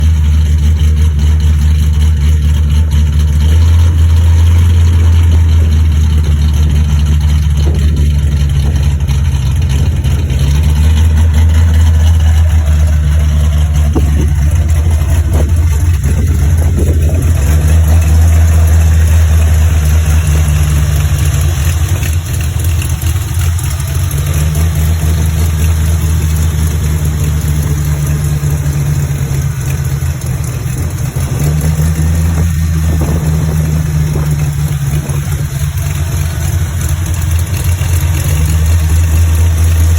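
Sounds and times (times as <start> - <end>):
v eight engine idling loudly: 0.0 - 39.9.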